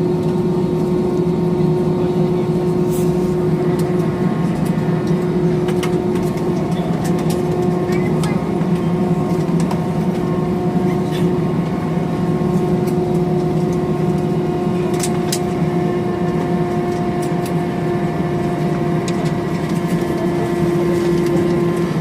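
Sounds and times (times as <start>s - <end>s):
airliner cabin hum and hiss: 0.0s - 22.0s.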